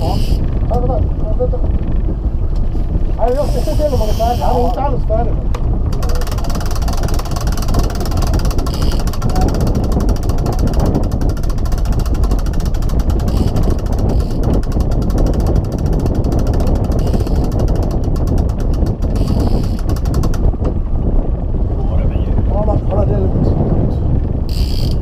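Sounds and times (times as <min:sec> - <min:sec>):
boat motor rumbling: 0:00.0 - 0:25.0.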